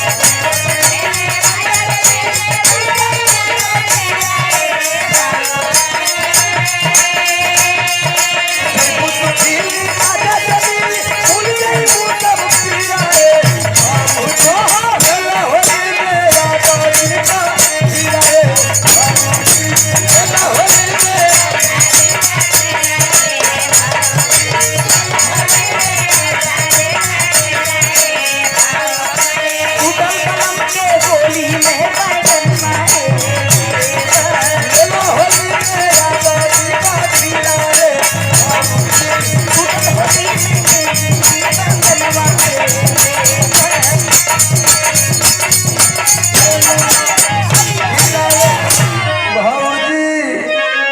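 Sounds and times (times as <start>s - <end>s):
jingling hand percussion: 0.0s - 49.9s.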